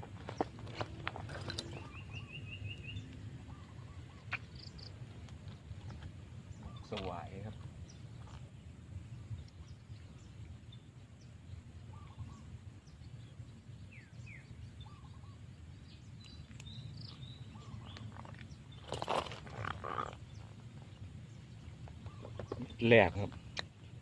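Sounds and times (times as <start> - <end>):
faint bird chirps: 1.3 - 5.0, 6.5 - 24.0.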